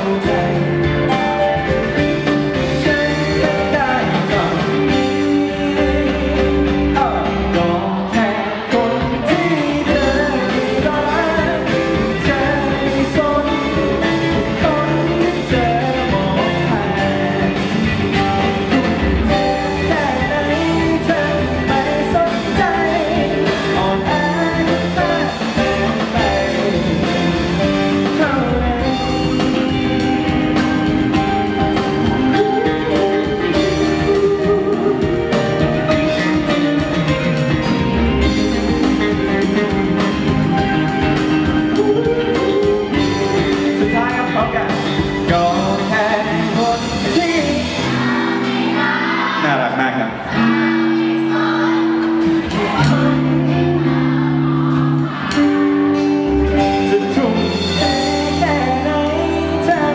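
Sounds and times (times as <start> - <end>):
man singing lead: 0.0 - 48.6, 49.2 - 59.9
electric guitar: 0.0 - 49.4, 50.0 - 59.9
drums: 0.0 - 59.9
keyboard: 0.0 - 59.9.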